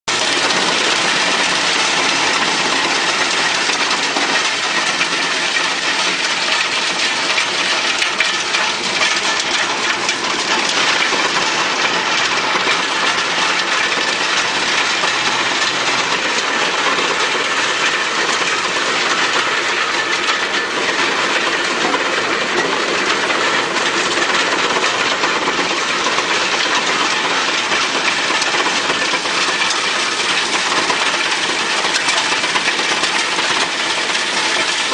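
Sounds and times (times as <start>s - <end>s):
wood chipper running: 0.0s - 34.9s.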